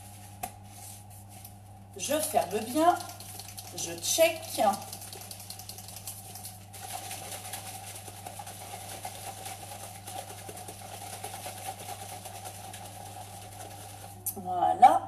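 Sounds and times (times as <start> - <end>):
liquid sloshing in shaker bottle: 2.1 - 14.3.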